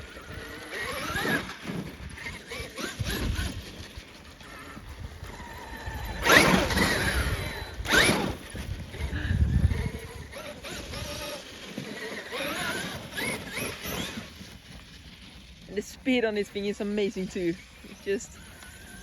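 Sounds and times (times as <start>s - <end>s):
electric motor whining: 0.0s - 15.3s, 17.2s - 19.0s
tyres churning ground: 0.0s - 19.0s.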